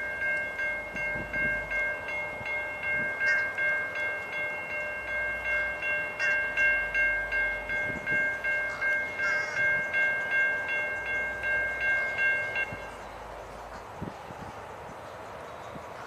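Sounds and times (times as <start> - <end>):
railroad crossing bell ringing: 0.0 - 16.0.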